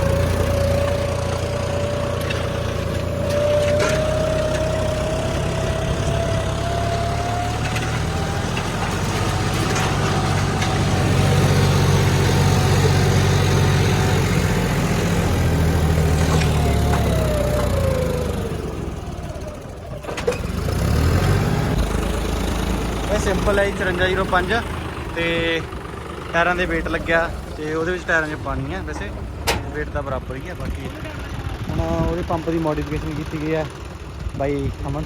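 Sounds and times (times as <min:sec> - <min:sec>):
engine whine: 0:00.0 - 0:35.0
tractor diesel engine under load: 0:00.0 - 0:35.0.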